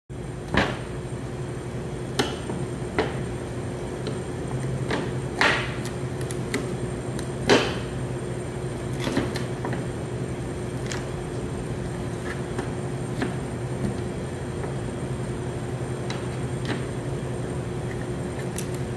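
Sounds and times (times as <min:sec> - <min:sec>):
steady low hum: 0:00.1 - 0:18.9.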